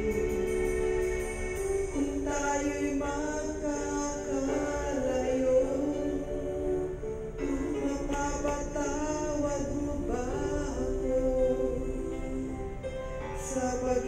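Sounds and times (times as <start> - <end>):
music backing track: 0.0 - 14.0.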